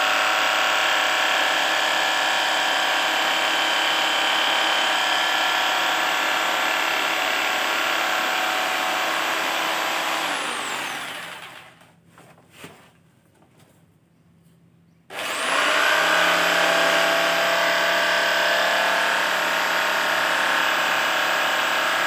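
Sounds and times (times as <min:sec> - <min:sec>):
electric jigsaw cutting: 0:00.0 - 0:11.8, 0:15.1 - 0:22.0.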